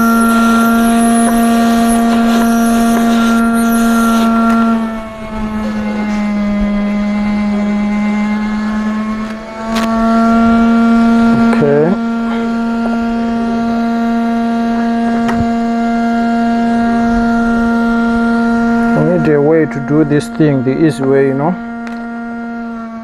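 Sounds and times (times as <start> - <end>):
hot air blower whine: 0.0 - 23.0.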